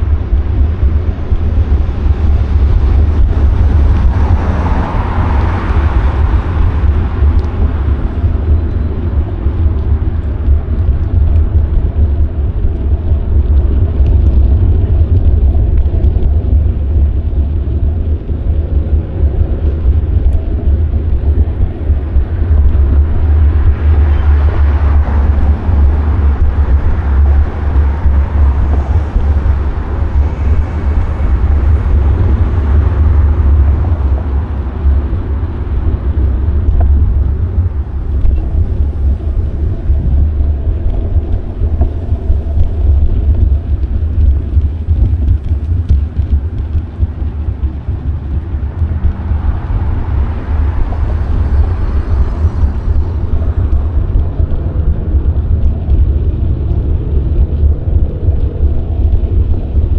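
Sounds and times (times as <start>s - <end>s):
broad rushing noise: 0.0s - 59.9s
wind buffeting microphone: 0.0s - 59.9s.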